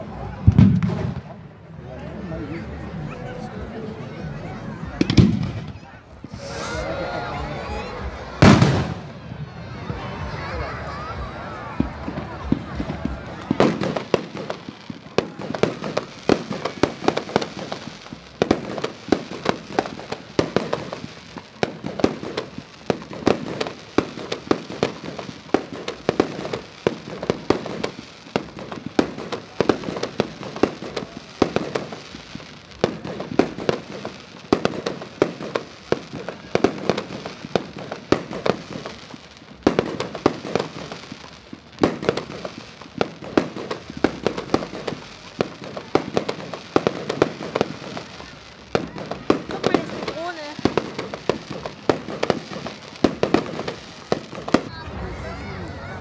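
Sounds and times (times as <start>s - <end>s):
fireworks and firecrackers banging: 0.0s - 56.0s.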